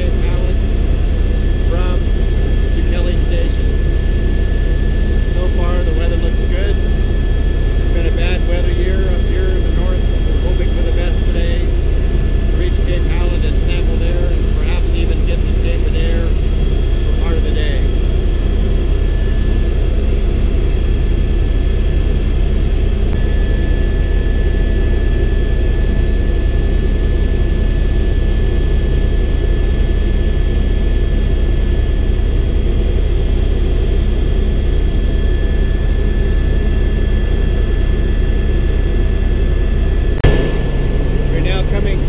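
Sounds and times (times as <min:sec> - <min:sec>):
helicopter rotor drone: 0:00.0 - 0:42.0
high turbine whine: 0:00.0 - 0:42.0.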